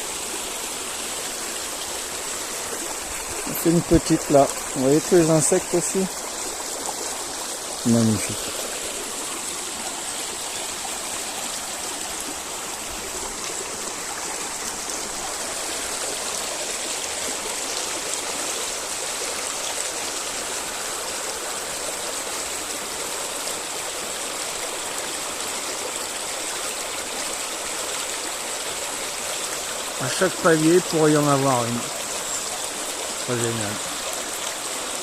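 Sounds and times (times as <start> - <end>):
river water rushing and burbling: 0.0 - 35.0.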